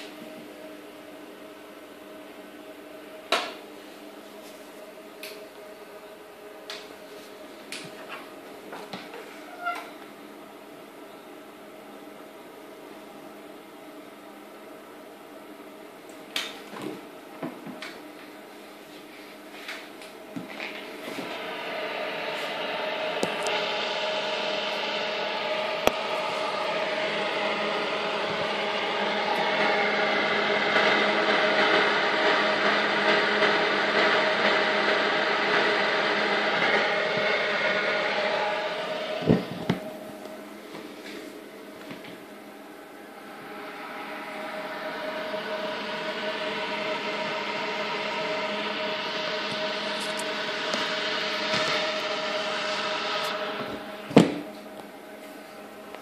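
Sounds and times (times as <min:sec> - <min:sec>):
egg incubator humming: 0:00.0 - 0:56.0.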